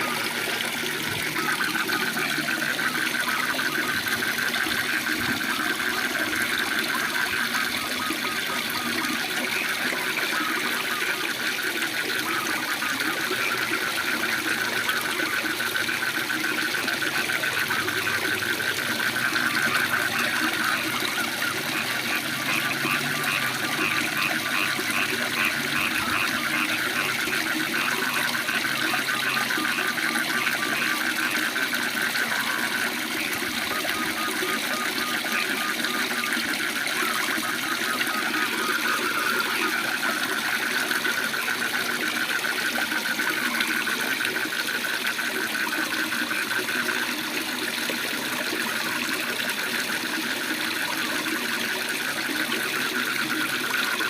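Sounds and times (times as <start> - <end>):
frogs trilling: 0.0 - 54.0
waterfall pouring: 0.0 - 54.0.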